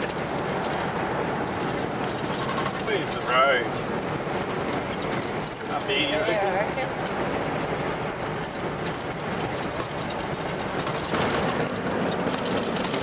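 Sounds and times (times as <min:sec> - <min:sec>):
engine and tyre rumble: 0:00.0 - 0:13.0
fine rattling: 0:00.0 - 0:13.0.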